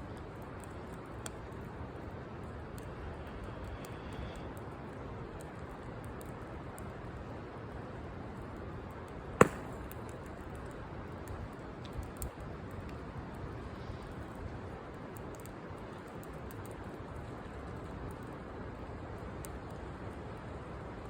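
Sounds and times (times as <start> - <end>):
wood campfire crackling: 0.0 - 21.0.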